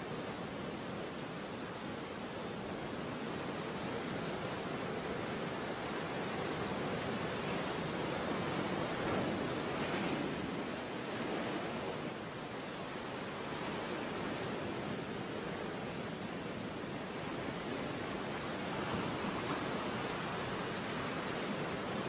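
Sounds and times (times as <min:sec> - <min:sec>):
sea waves washing on shore: 0:00.0 - 0:22.0.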